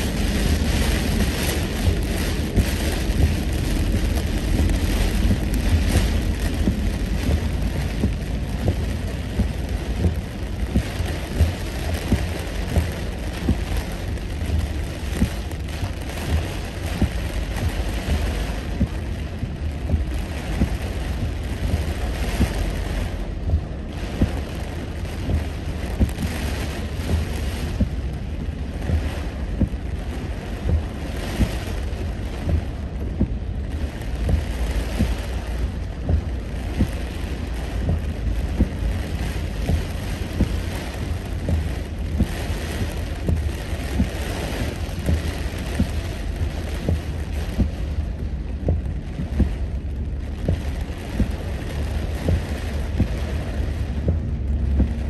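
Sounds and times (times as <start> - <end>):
heavy rain on car roof: 0.0 - 55.0
road and tyre noise: 0.0 - 55.0.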